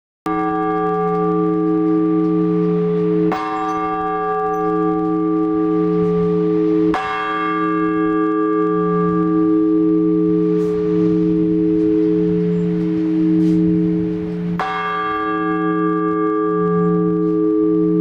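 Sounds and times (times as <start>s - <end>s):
large church bell strokes: 0.3s - 18.0s.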